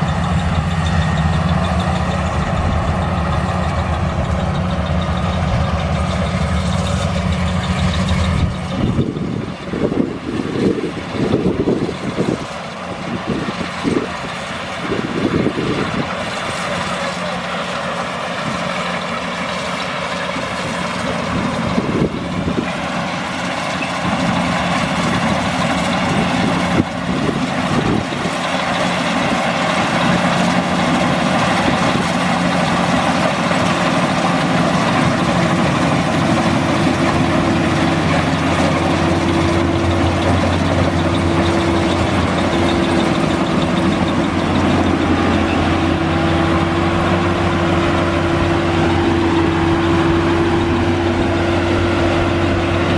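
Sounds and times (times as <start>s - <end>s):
combine harvester running: 0.0s - 52.9s.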